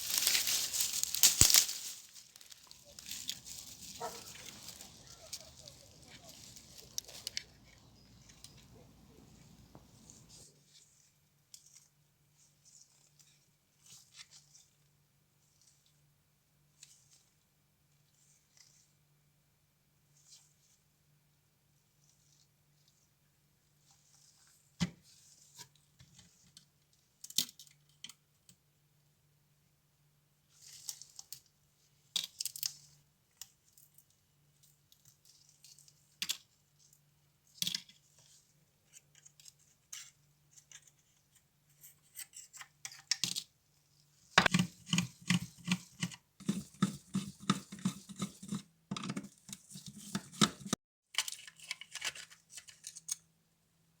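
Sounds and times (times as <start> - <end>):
small clicks and scrapes: 0.0 - 16.1, 16.7 - 19.0, 22.0 - 28.6, 30.5 - 53.3.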